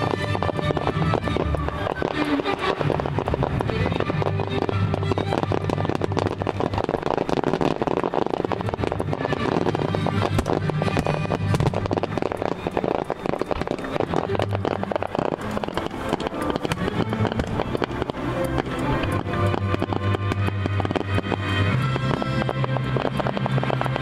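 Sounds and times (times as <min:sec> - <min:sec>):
fireworks crackling and popping: 0:00.0 - 0:24.0
music playing: 0:00.0 - 0:24.0.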